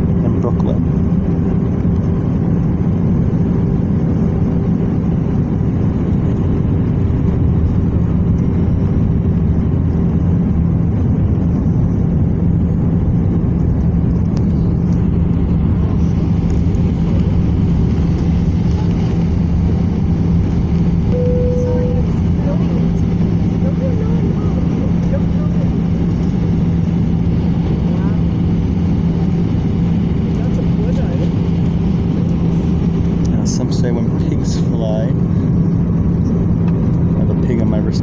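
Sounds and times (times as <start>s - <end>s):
constant low hum: 0.0s - 38.0s
jet engines and airflow rushing: 0.0s - 38.0s.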